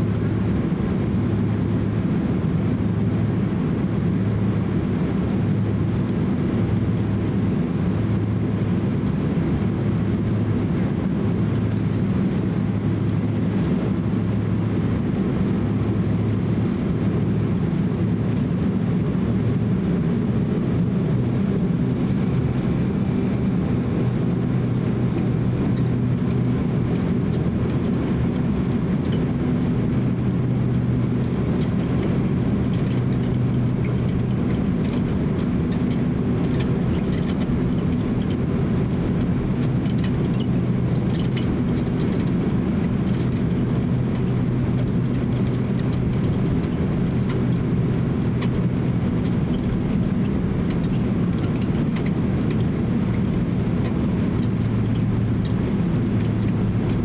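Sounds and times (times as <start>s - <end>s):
jet engines low hum: 0.0s - 57.0s.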